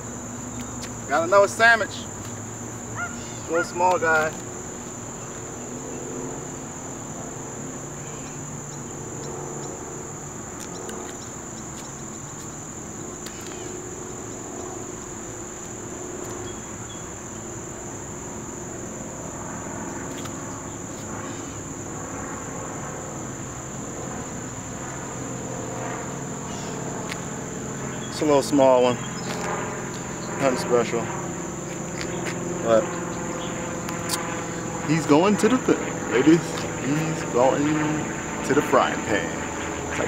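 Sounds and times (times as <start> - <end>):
insects droning high-pitched: 0.0 - 40.0.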